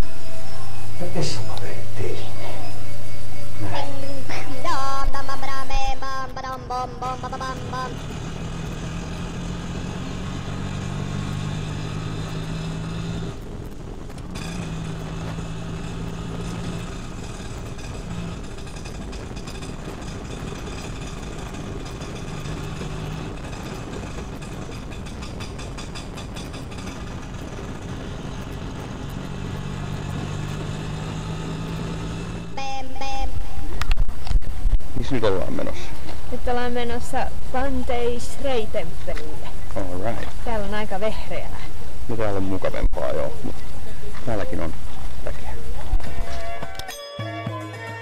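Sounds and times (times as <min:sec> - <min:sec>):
road and wind noise: 0:00.0 - 0:46.9
motorbike engine hum: 0:00.0 - 0:48.0.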